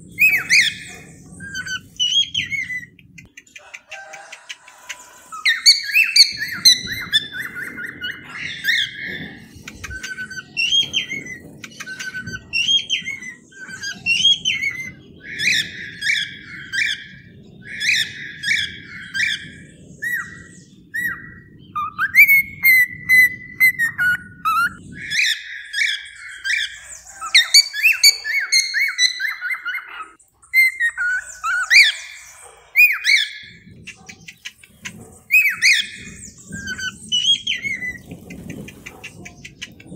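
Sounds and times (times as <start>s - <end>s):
cockatiels chirping and warbling: 0.1s - 39.9s.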